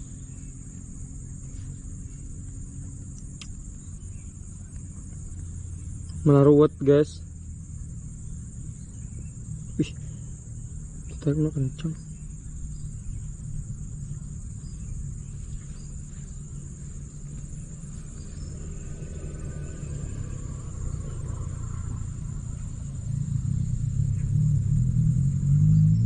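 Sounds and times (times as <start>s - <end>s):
insects chirring: 0.0s - 26.0s
low rumble: 0.0s - 26.0s.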